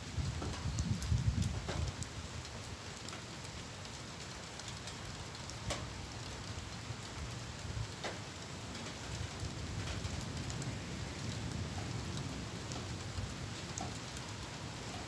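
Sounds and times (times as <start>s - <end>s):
light rain falling: 0.0s - 15.0s
sharp ticks of raindrops: 0.0s - 15.0s.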